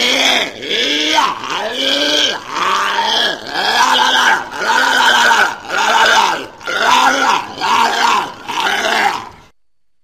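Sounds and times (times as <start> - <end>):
walrus calling: 0.0 - 9.5.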